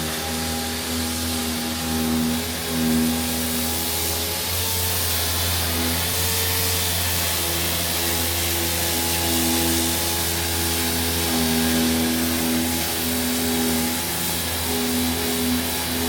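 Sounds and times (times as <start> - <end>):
power sander running: 0.0 - 16.0.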